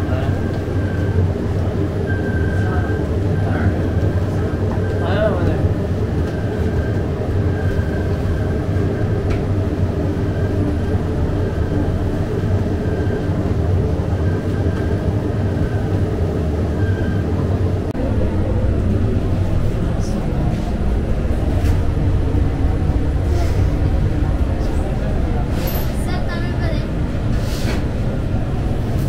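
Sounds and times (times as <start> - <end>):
bakery machinery rumbling: 0.0 - 29.0.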